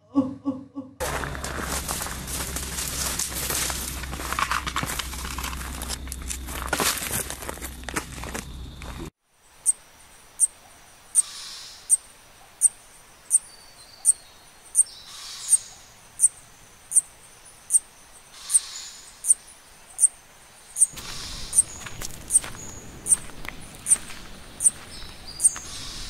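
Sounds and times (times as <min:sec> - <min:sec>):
soft outdoor ambience hiss: 0:01.0 - 0:26.0.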